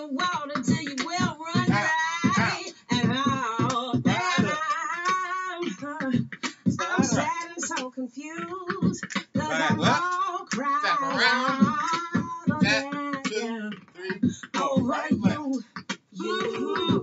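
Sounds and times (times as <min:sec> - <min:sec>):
beatboxed rhythm: 0:00.0 - 0:17.0
woman singing: 0:00.0 - 0:17.0.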